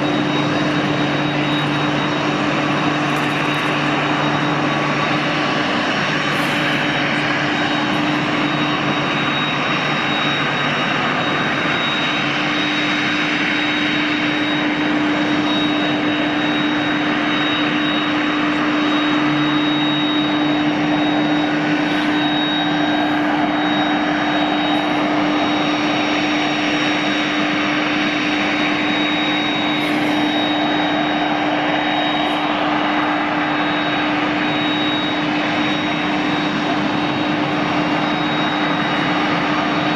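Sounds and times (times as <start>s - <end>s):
high jet whine: 0.0s - 39.9s
jet engines roaring: 0.0s - 39.9s
low hum: 0.0s - 39.9s.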